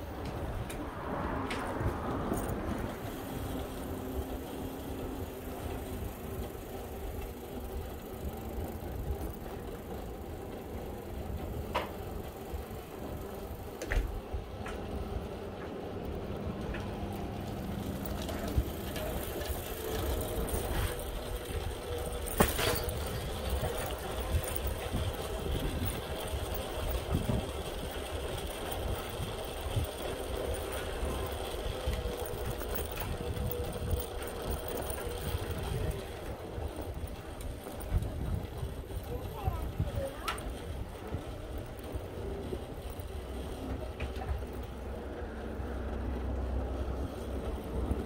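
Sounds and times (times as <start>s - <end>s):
bicycle riding rumble: 0.0s - 48.0s.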